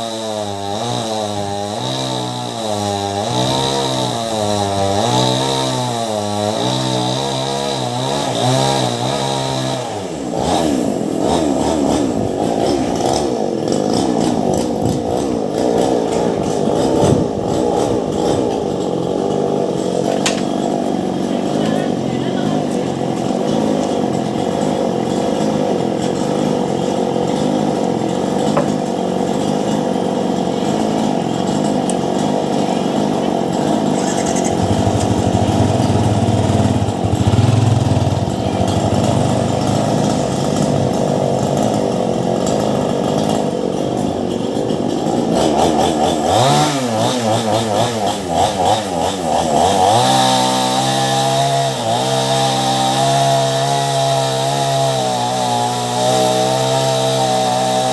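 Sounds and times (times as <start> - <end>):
chainsaw cutting into wood: 0.0 - 57.9.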